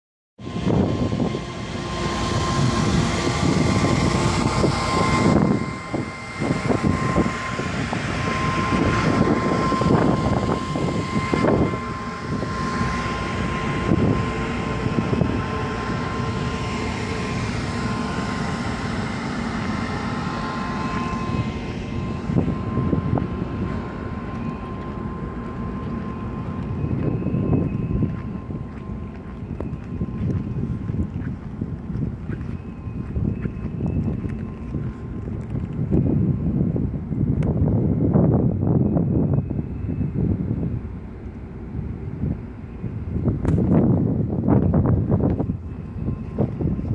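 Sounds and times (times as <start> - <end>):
high machinery whine: 0.4 - 46.9
ship machinery rumble: 0.4 - 46.9
wind buffeting microphone: 0.4 - 46.9.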